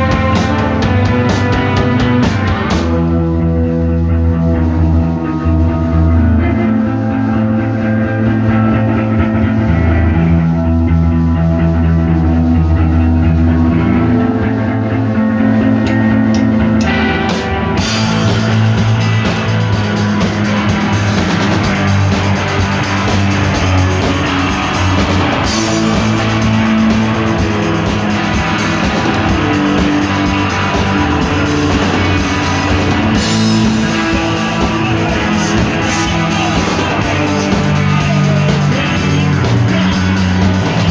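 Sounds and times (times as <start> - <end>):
rock music with electric guitar: 0.0 - 40.9.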